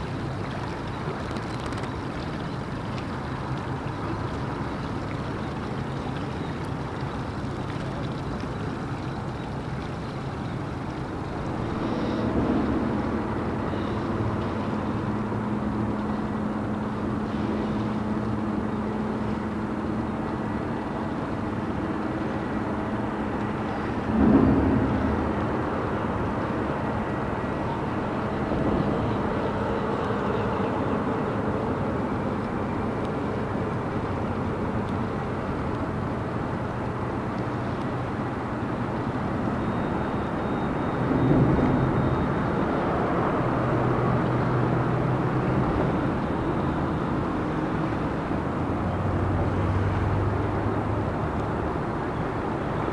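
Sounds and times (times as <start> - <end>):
motorboat engines running: 0.0 - 52.9.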